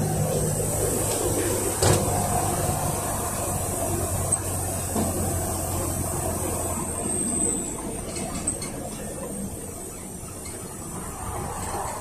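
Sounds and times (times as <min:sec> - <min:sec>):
bus diesel engine humming: 0:00.0 - 0:12.0
road and body noise: 0:00.0 - 0:12.0.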